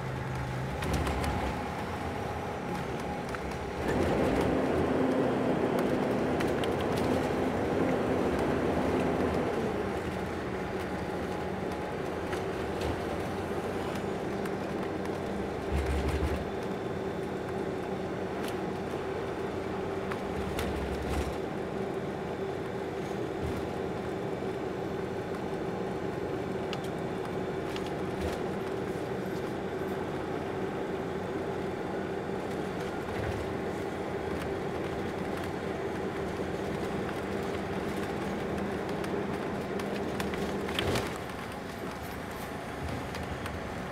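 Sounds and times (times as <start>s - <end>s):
vehicle road and engine noise: 0.0s - 43.9s.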